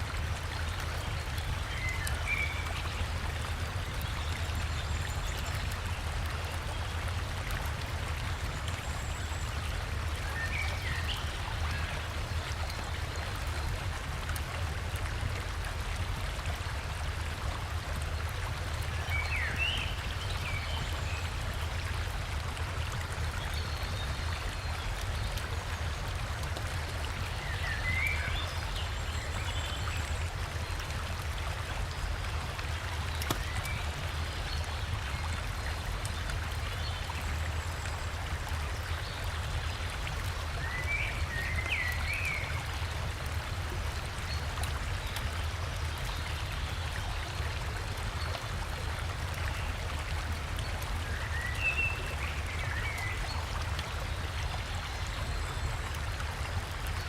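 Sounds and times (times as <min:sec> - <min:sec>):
river water over waterfall: 0:00.0 - 0:57.0.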